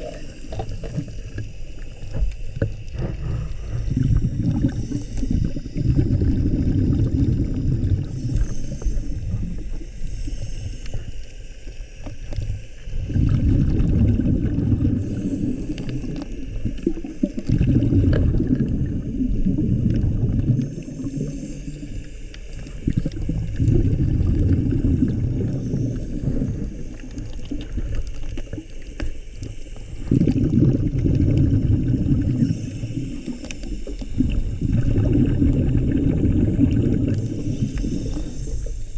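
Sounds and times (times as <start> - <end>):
bubbles rumbling and gurgling: 0.0 - 38.9
regulator hiss: 0.0 - 38.9.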